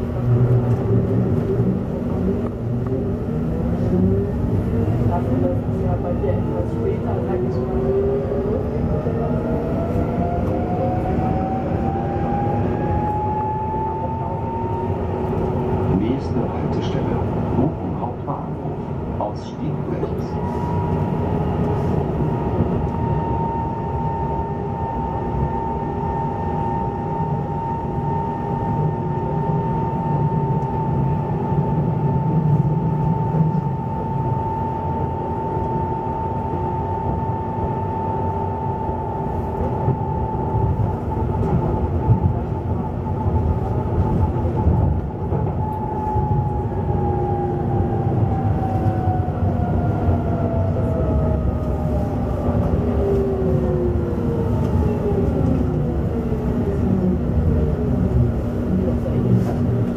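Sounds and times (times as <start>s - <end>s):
wheels rumbling on track: 0.0s - 59.9s.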